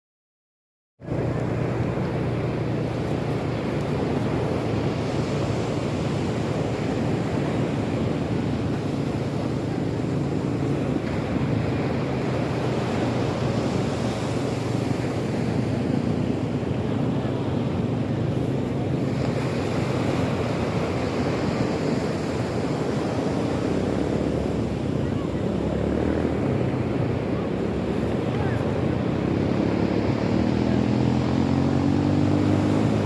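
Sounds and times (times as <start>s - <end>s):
sea waves washing on shore: 1.0s - 33.0s
wind rumbling on microphone: 1.0s - 33.0s.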